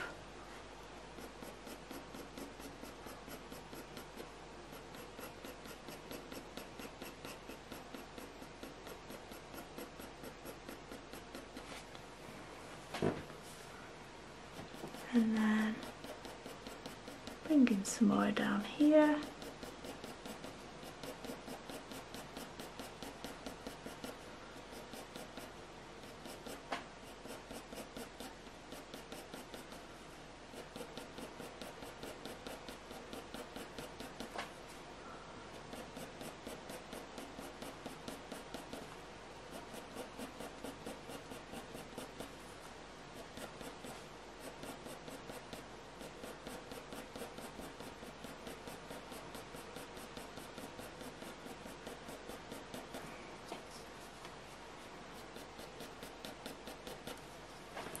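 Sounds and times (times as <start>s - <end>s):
pencil scratching on paper: 1.0s - 12.0s, 14.5s - 34.8s, 35.5s - 58.0s
sharp pencil ticks: 1.2s - 11.6s, 14.6s - 29.9s, 30.5s - 34.4s, 35.6s - 42.3s, 43.1s - 53.0s, 55.1s - 57.3s.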